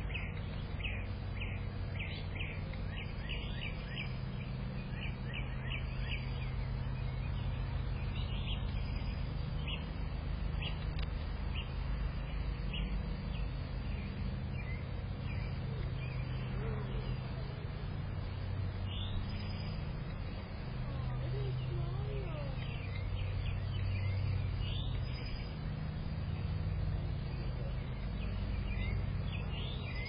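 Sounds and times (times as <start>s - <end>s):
songbirds chirping: 0.0s - 30.0s
steady low rumble: 0.0s - 30.0s.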